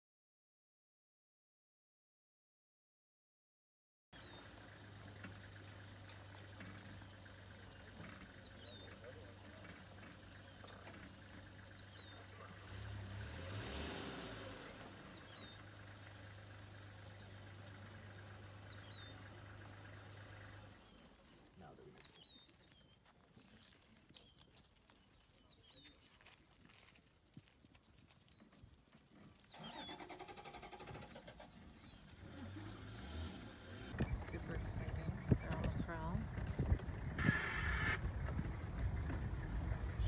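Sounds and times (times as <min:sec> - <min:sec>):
vehicle engine idling: 0:04.2 - 0:40.0.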